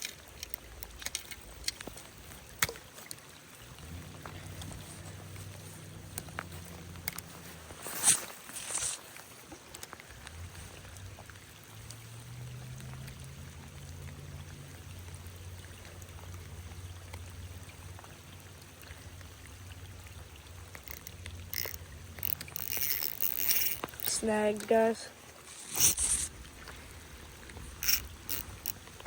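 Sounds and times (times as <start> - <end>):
faint clicks: 0.0 - 24.8, 25.4 - 29.0.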